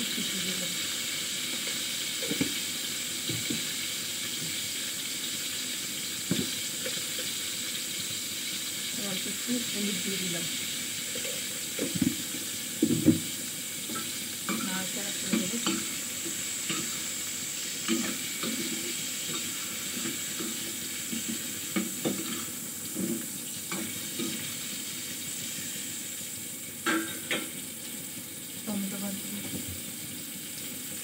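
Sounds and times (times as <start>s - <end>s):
food sizzling in frying pan: 0.0s - 31.0s.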